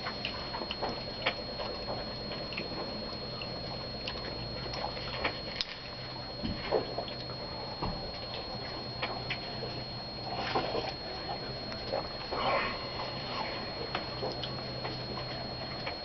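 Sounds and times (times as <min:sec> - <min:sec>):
steady low hum: 0:00.0 - 0:16.0
thin high whine: 0:00.0 - 0:16.0.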